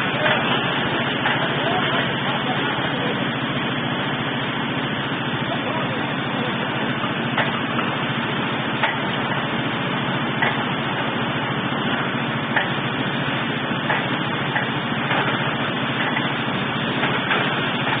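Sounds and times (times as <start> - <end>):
drilling rig engine running: 0.0 - 18.0.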